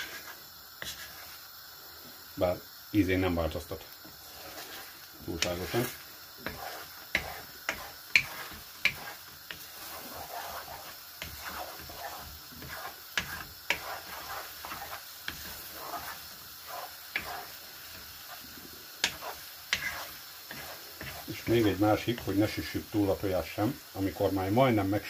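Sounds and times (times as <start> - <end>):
wooden spatula scraping a pan: 0.0 - 1.5, 4.0 - 24.7
faint frying: 0.0 - 25.0.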